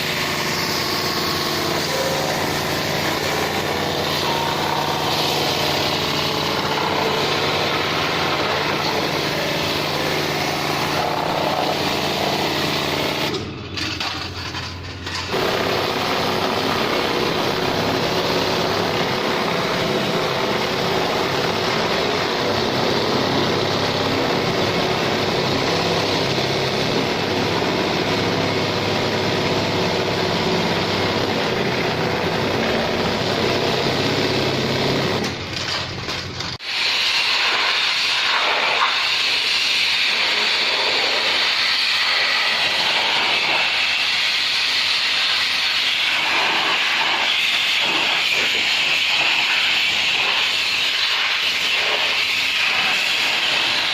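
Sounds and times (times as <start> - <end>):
car wash motor hissing: 0.0 - 53.9.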